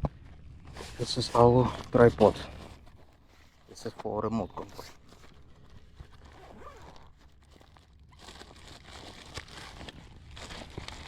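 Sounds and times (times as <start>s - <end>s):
rustling of packaging: 0.0s - 11.0s.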